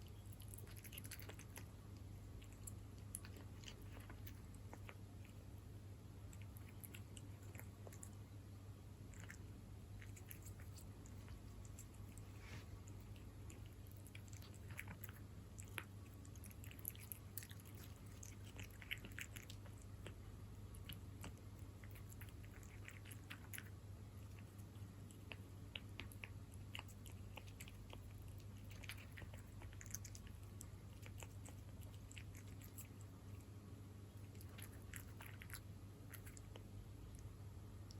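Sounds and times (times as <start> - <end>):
cat chewing wet food: 0.0 - 37.9
steady low hum: 0.0 - 37.9.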